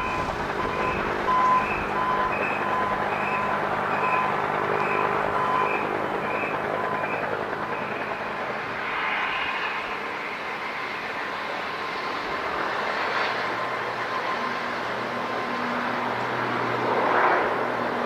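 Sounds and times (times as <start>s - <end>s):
airliner engines running: 0.0s - 18.0s.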